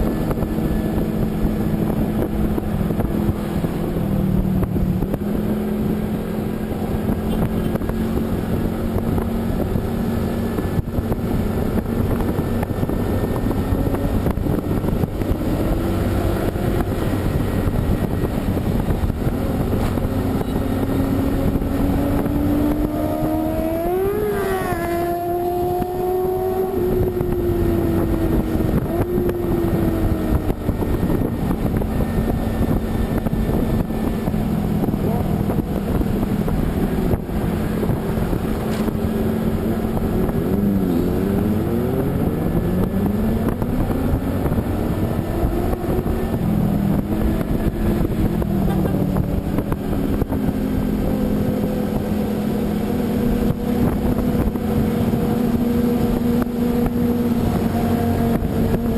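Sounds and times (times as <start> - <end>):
engine note rising and falling: 0.0 - 58.9
road and wind noise: 0.0 - 58.9
vehicle engine drone: 0.0 - 58.9.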